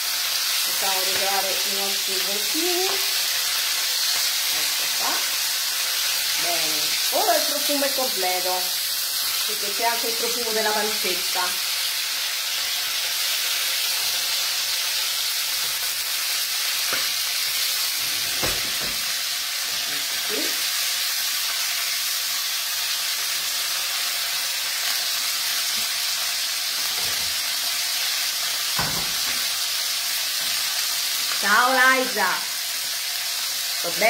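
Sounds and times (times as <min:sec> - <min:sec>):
meat sizzling in a pot: 0:00.0 - 0:34.0.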